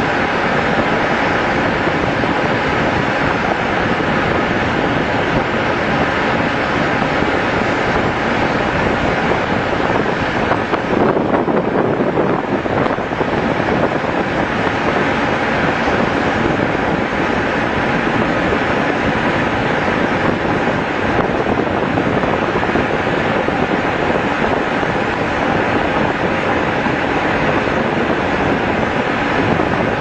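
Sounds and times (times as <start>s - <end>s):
rough sea wash: 0.0s - 30.0s
wind buffeting microphone: 0.0s - 30.0s.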